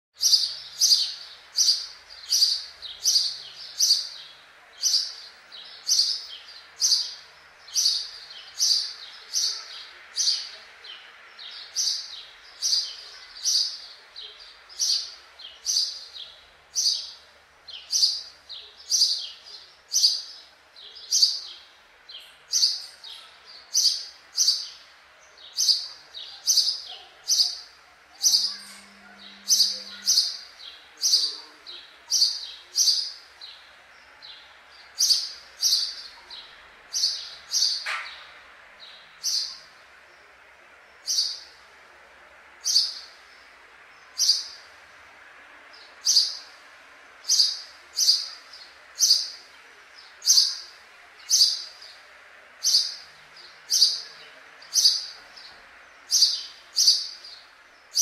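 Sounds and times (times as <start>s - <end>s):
sparrow chirping: 0.2s - 39.9s, 40.7s - 41.8s, 42.6s - 44.8s, 45.8s - 46.6s, 47.2s - 52.0s, 52.6s - 58.0s.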